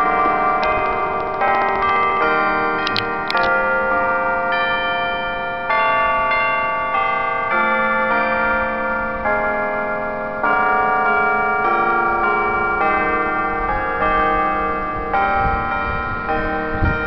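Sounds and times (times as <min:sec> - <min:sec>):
church bells chiming a tune: 0:00.0 - 0:17.0.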